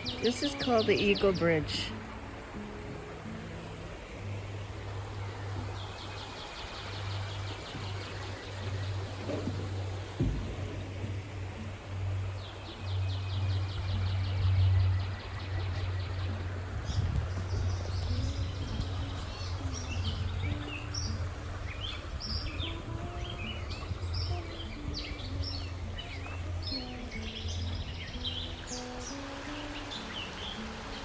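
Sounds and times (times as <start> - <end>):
songbirds calling and singing: 0.0 - 31.0.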